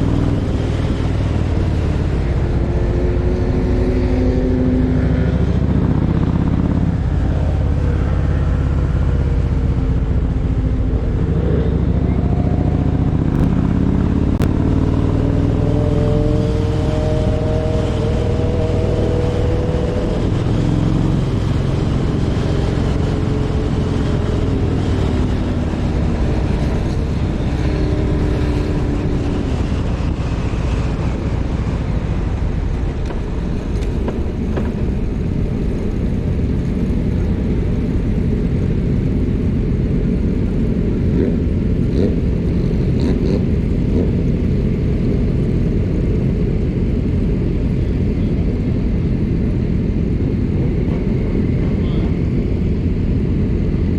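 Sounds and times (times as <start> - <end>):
motorcycle engine running: 0.0 - 53.9
wind rush on microphone: 0.0 - 53.9.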